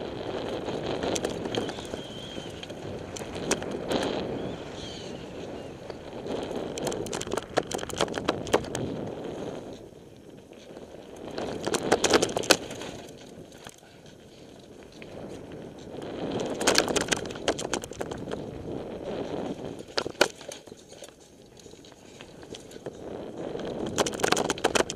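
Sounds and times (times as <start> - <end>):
bike tyres on dirt: 0.0 - 24.9
bike clattering over bumps: 0.2 - 4.7, 5.8 - 9.8, 10.4 - 24.9.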